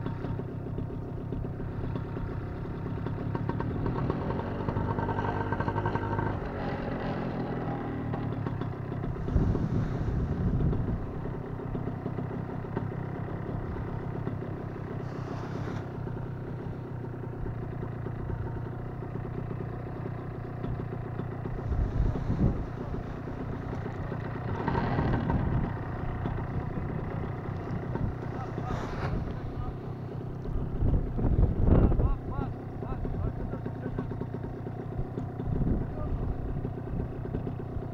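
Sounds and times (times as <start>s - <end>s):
paramotor engine idling: 0.0s - 37.9s.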